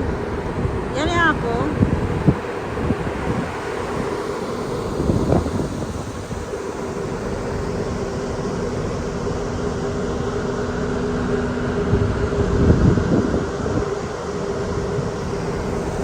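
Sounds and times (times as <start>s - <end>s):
ship machinery drone: 0.0s - 16.0s
wind buffeting microphone: 0.0s - 16.0s.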